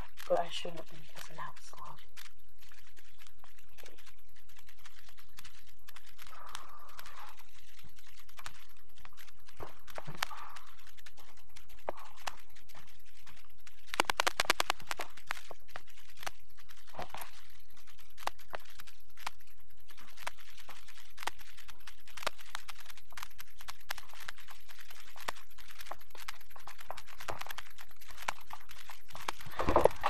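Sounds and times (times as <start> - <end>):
rustling noise: 0.0 - 30.0.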